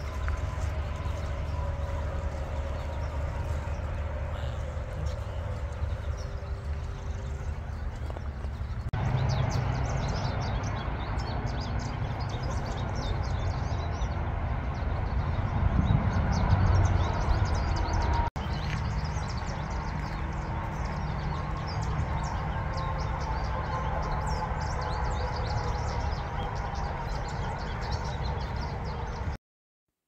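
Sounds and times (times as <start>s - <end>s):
small birds chirping: 0.0s - 29.4s
steady low rumble: 0.0s - 29.4s.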